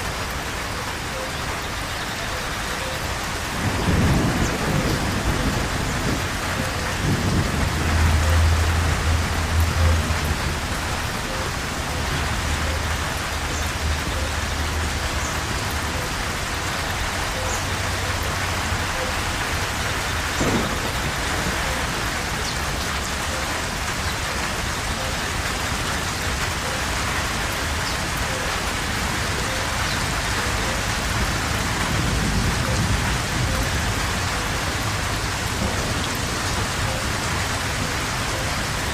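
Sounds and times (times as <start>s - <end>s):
heavy rain falling: 0.0s - 38.9s
thunder rumbling: 3.3s - 13.2s, 15.9s - 26.7s, 27.7s - 38.9s.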